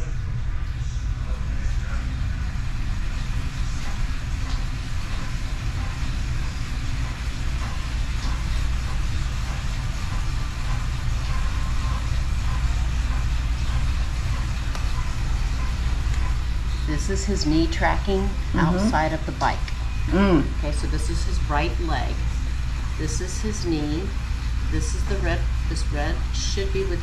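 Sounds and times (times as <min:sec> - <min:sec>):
bicycle trainer rumbling: 0:00.0 - 0:27.0.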